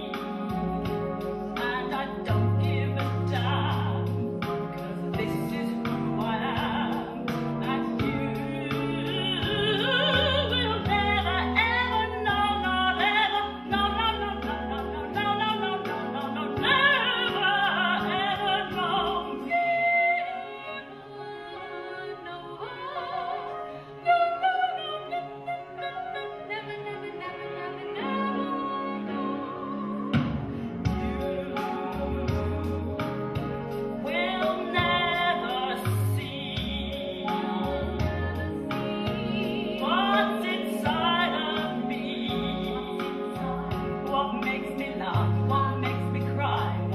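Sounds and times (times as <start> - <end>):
operatic singing: 0.0 - 46.9
string accompaniment: 0.0 - 46.9.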